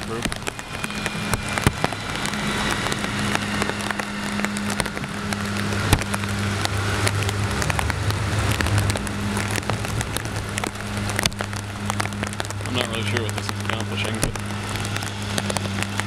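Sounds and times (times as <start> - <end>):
heavy rain: 0.0 - 16.0
heavy vehicle engine humming: 0.0 - 16.0.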